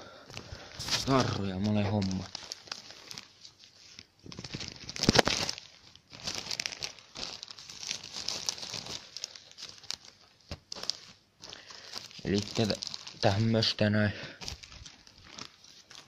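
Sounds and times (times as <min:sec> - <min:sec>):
plastic bags crinkling: 0:00.2 - 0:16.0.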